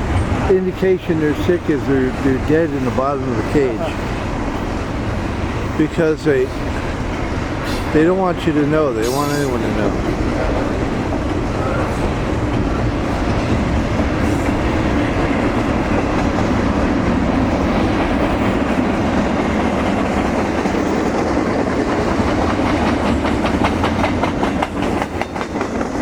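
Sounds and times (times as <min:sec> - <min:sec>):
train rumbling past: 0:00.0 - 0:26.0
wheels clacking over rails: 0:00.0 - 0:26.0.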